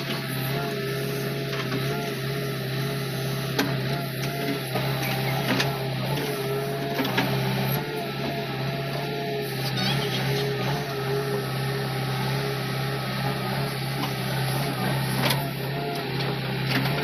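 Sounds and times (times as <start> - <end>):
backhoe loader running: 0.0 - 17.0.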